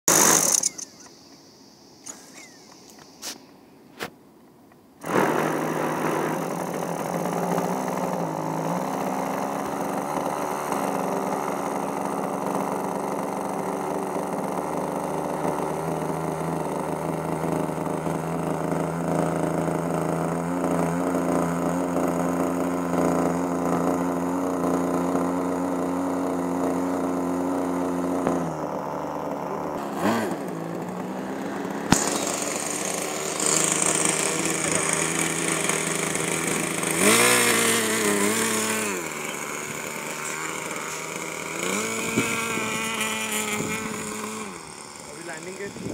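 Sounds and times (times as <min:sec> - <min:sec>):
model aircraft engine running: 0:00.1 - 0:03.4, 0:05.0 - 0:45.9.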